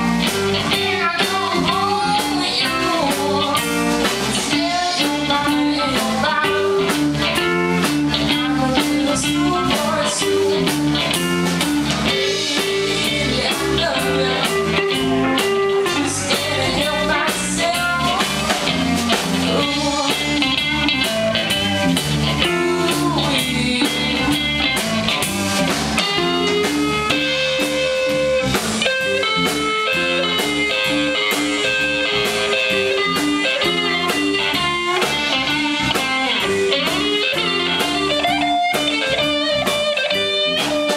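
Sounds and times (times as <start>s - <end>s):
blues-rock band playing: 0.0s - 40.9s
electric guitar lead line: 0.0s - 40.9s.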